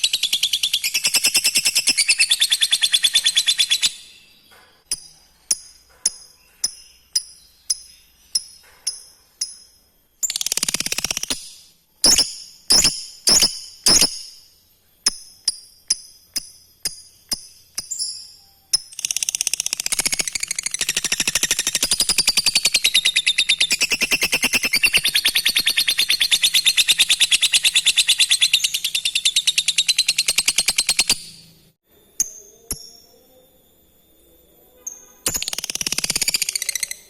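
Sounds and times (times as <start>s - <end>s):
lovebird chattering trill: 0.0s - 4.2s, 4.9s - 14.4s, 15.0s - 31.4s
lovebird chirps: 0.0s - 33.8s, 34.8s - 37.0s.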